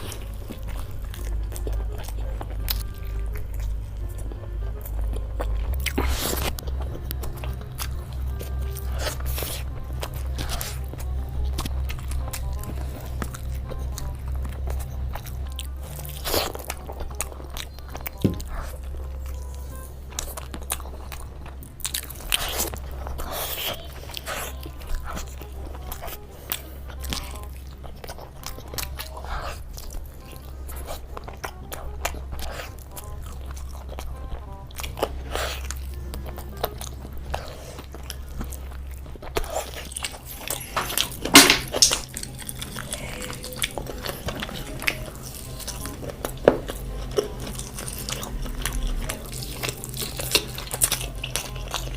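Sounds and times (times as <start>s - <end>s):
crunchy wet chewing: 0.0s - 51.9s
low background music: 0.0s - 51.9s.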